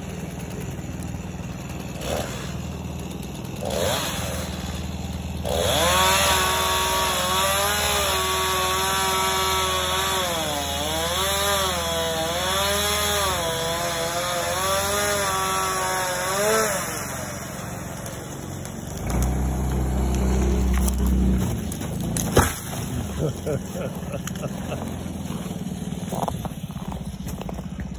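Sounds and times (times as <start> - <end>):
chainsaw cutting wood: 0.0 - 27.9.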